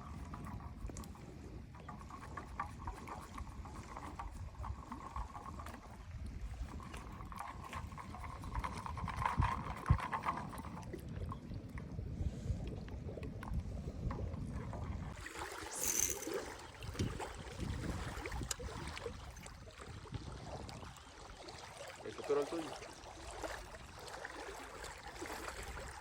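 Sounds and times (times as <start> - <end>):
wind buffeting microphone: 0.0 - 21.2.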